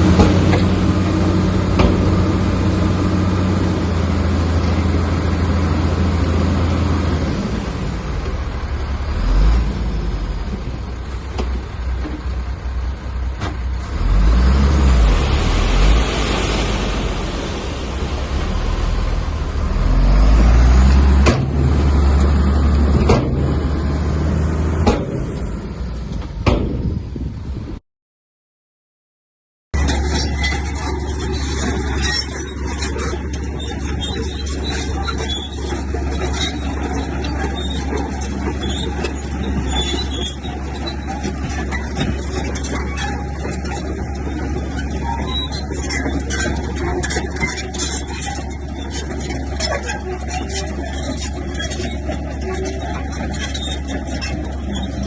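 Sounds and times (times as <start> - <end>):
bulldozer diesel engine working: 0.0 - 27.8, 29.8 - 55.0.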